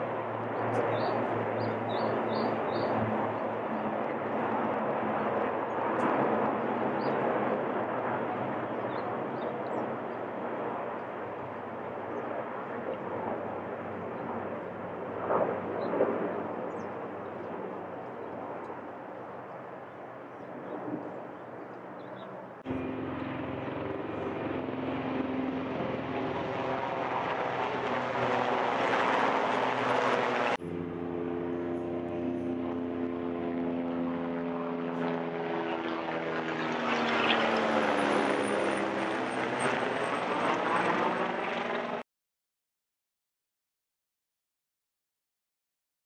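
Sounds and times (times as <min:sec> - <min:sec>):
helicopters flying over: 0:00.0 - 0:42.0.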